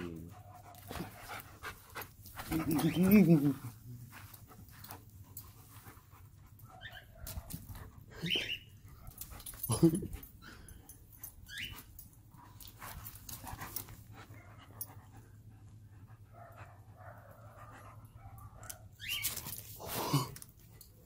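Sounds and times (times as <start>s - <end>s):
dog panting: 0.1s - 11.1s, 12.4s - 18.6s.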